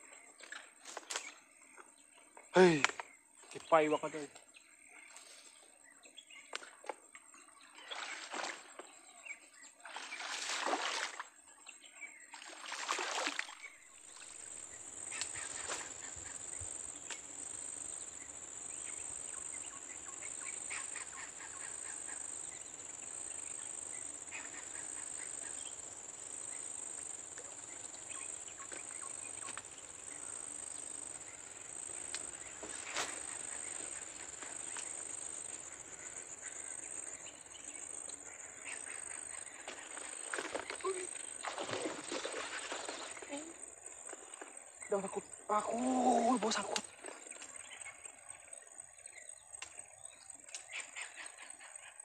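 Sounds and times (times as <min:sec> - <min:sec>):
insect drone: 0:00.0 - 0:52.0.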